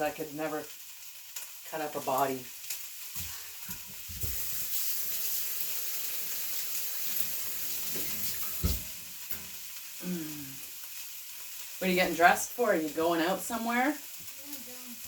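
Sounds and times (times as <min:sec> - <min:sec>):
food sizzling in pan: 0:00.0 - 0:15.0.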